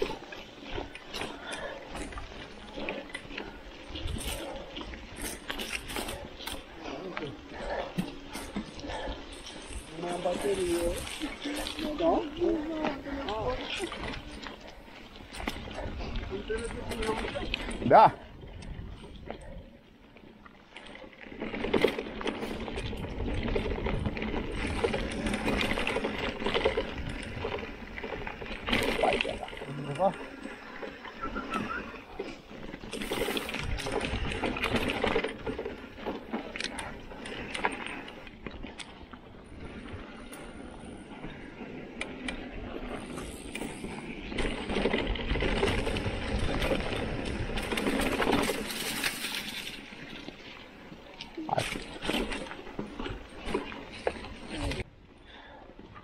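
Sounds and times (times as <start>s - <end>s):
mountain bike rattling and clicking: 0.0s - 56.0s.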